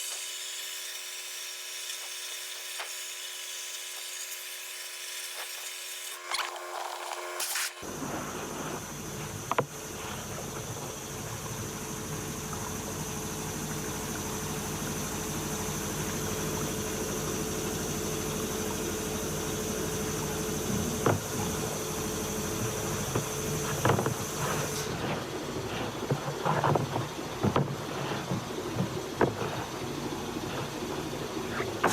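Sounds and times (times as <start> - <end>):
machine hum: 6.2 - 31.9.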